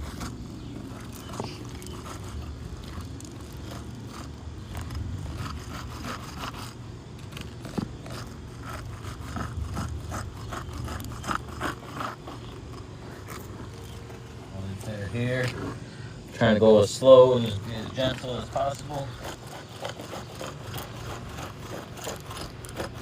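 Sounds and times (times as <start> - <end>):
shingles scraping and crackling: 0.0 - 23.0.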